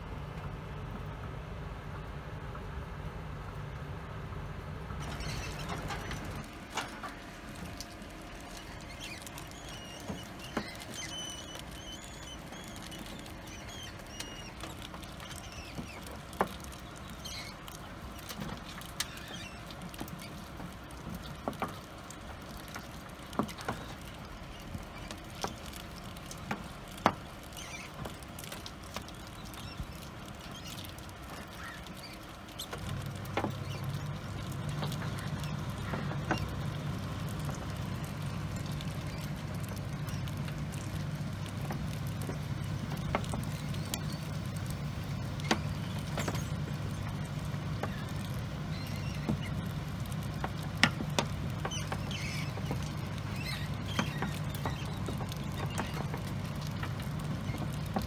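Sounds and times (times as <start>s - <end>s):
mice scurrying in bedding: 5.0s - 58.0s
mice squeaking: 5.0s - 58.0s.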